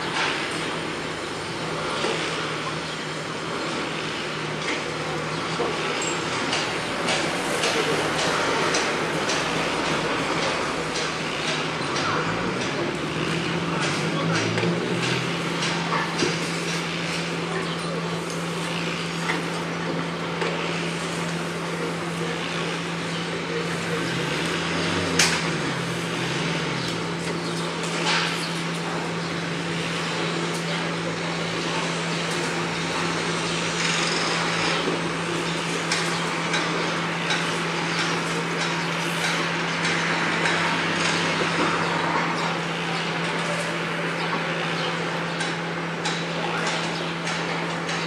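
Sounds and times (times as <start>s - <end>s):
general construction din: 0.0s - 48.0s.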